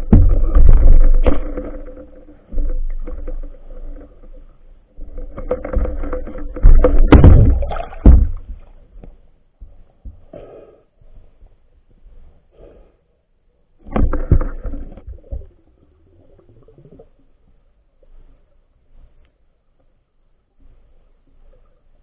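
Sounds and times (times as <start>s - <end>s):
underwater rustling: 0.0s - 10.4s, 13.8s - 22.0s.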